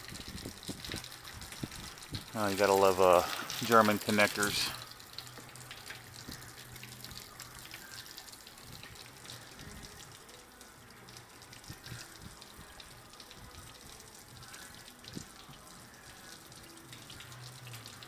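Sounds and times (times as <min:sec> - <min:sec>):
fluid running and dripping: 0:00.0 - 0:18.0.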